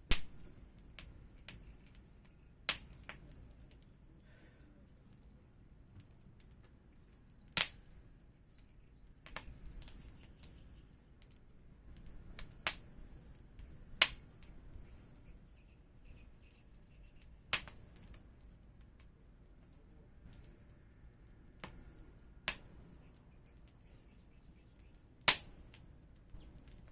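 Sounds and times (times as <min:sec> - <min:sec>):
wood fire crackling and popping: 0:00.0 - 0:26.9.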